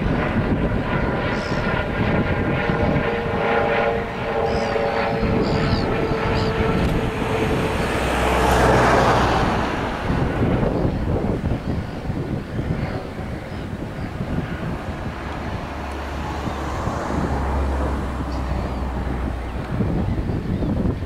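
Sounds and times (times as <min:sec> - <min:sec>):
propeller aircraft engine drone: 0:00.0 - 0:21.0
wind buffeting microphone: 0:00.0 - 0:21.0.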